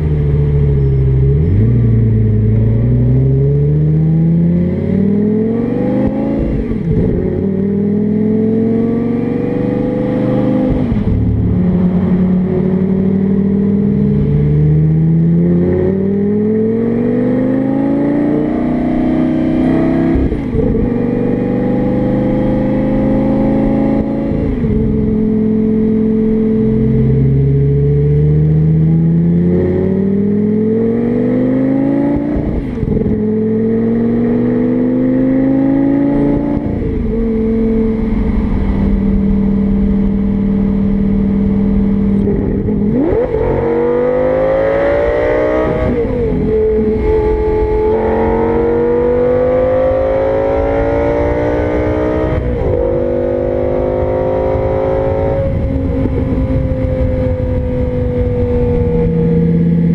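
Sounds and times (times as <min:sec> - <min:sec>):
car engine accelerating through gears: 0:00.0 - 0:59.9.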